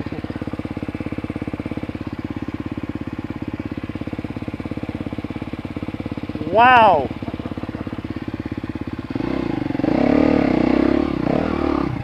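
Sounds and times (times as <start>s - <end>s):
dirt bike engine idling: 0.0s - 12.0s.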